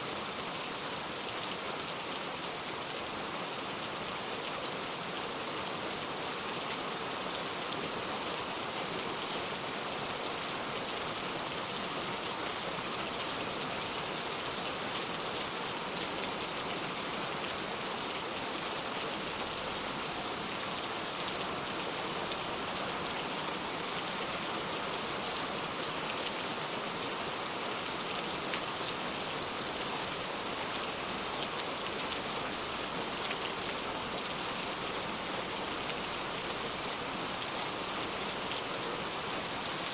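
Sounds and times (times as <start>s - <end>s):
rain falling on ground: 0.0s - 39.9s.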